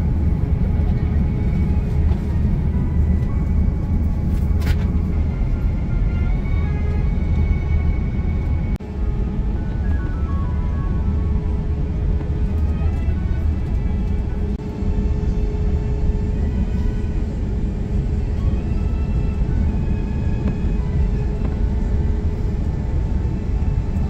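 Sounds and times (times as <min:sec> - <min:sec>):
airplane taxiing rumble: 0:00.0 - 0:24.0
engines idling hum: 0:00.0 - 0:24.0.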